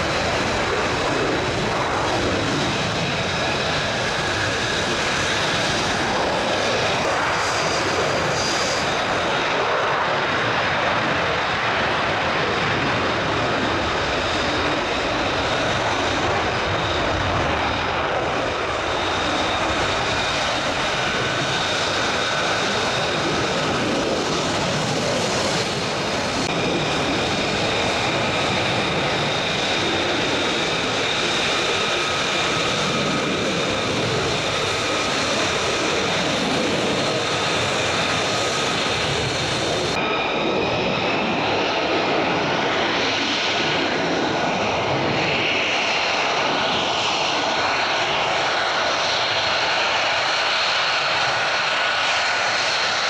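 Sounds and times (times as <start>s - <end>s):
jet engine running: 0.0s - 53.0s.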